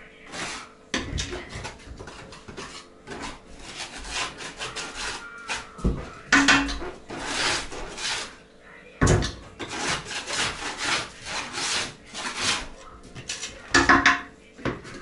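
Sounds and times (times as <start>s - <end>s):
straw broom sweeping gritty floor: 0.2s - 8.4s, 9.6s - 13.6s.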